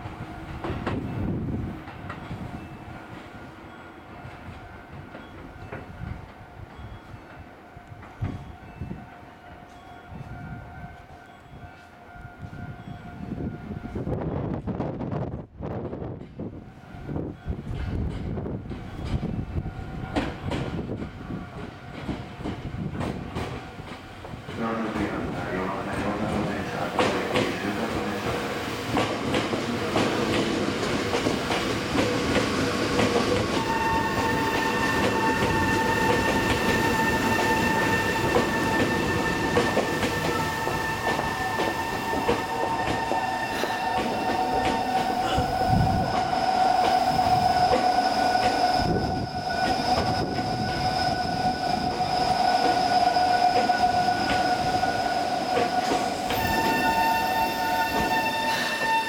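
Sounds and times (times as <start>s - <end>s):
train wheel-on-rail noise: 0.0s - 59.0s.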